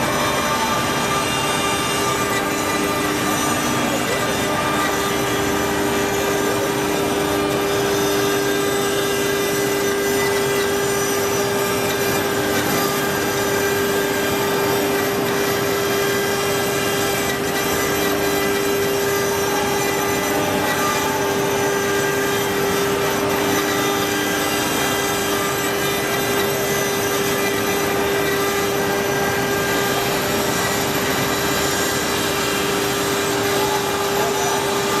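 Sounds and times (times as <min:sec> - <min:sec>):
router spindle whining: 0:00.0 - 0:35.0.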